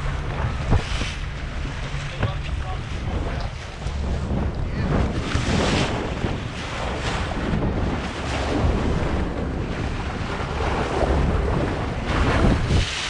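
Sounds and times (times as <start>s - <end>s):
boat engine rumble: 0.0s - 13.0s
waves against hull: 0.0s - 13.0s
wind buffeting microphone: 0.0s - 13.0s.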